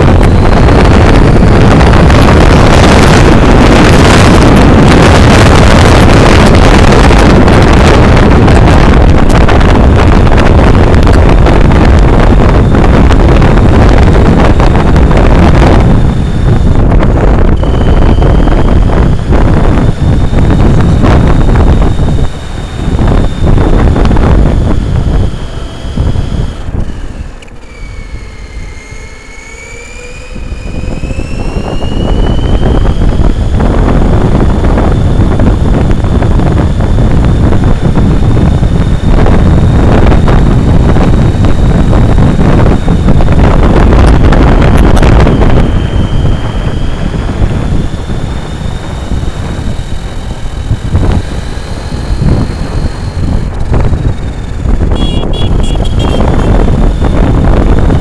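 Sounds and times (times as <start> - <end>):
electric motor whine: 0.0 - 58.0
tyre and wind rumble: 0.0 - 58.0.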